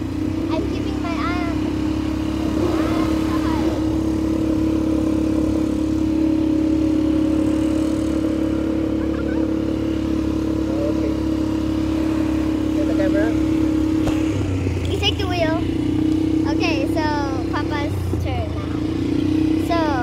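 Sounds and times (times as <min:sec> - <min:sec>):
quad bike engine droning: 0:00.0 - 0:20.0.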